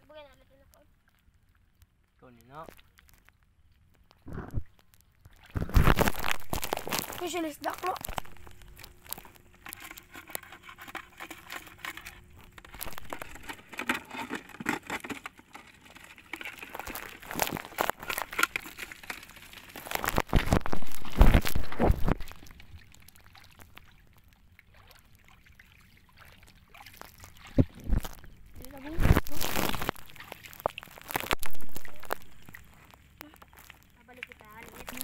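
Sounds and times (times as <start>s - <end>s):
wading through shallow water: 0.3s - 35.0s.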